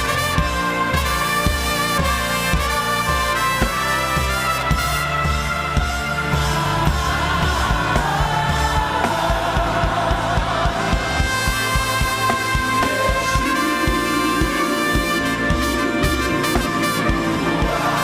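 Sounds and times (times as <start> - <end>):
choir singing: 0.0 - 18.0
gospel band playing: 0.0 - 18.0.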